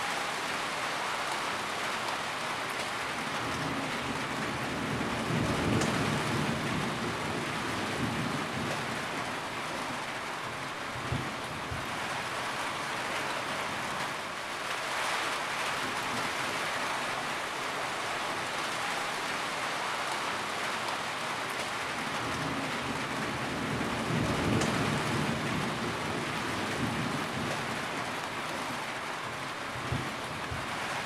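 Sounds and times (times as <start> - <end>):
heavy rain on a roof: 0.0 - 31.0.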